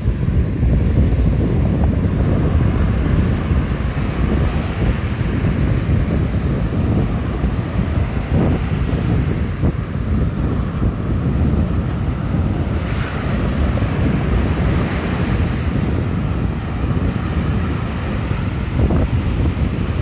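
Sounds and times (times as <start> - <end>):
steady rush like surf: 0.0 - 20.0
wind buffeting microphone: 0.0 - 20.0.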